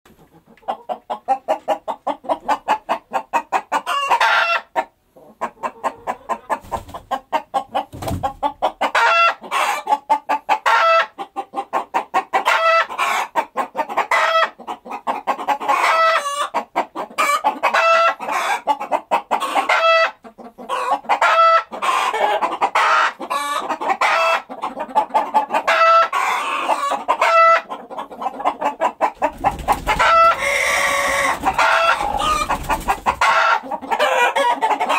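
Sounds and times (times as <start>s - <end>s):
rooster clucking: 0.1s - 34.9s.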